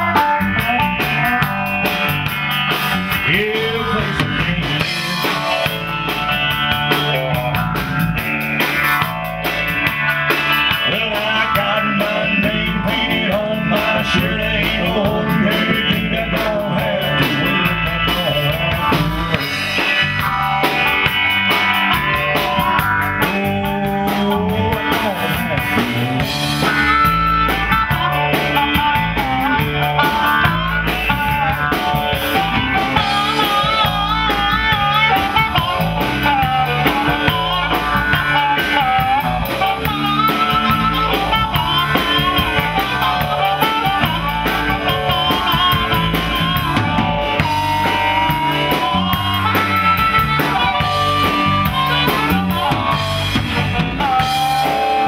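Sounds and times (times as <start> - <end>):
bass guitar: 0.0 - 55.0
drum kit beat: 0.0 - 55.0
electric guitars: 0.0 - 55.0.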